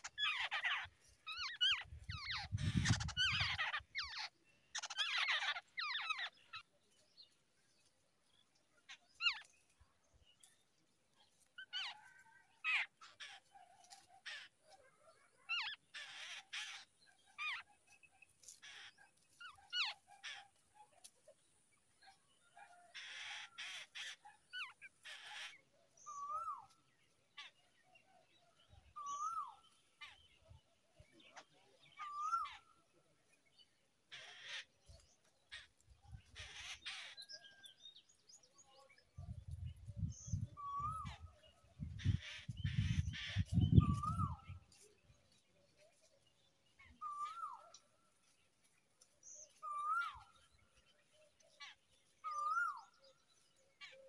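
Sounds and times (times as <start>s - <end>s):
harsh bird calls and chirps: 0.0s - 54.0s.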